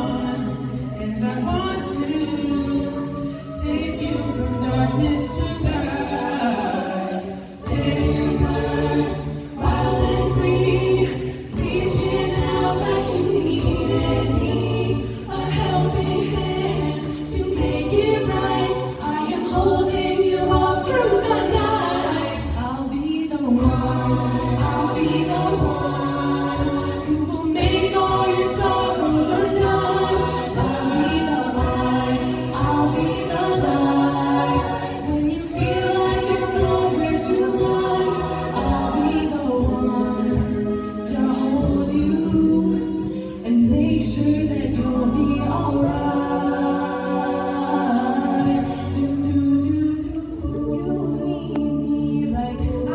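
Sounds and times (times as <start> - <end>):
a cappella group singing in harmony: 0.0 - 52.9.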